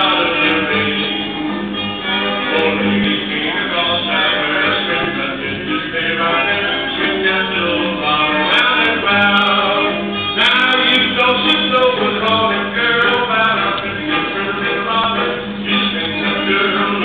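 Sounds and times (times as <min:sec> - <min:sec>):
man singing: 0:00.0 - 0:17.0
square dance music: 0:00.0 - 0:17.0.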